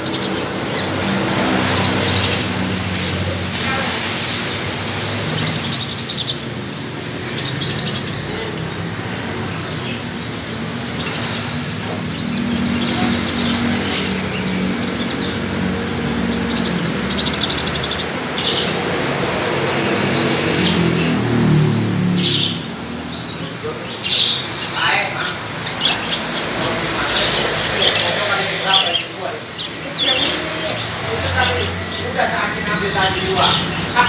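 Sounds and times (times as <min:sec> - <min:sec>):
budgerigars chirping and chattering: 0:00.0 - 0:34.0.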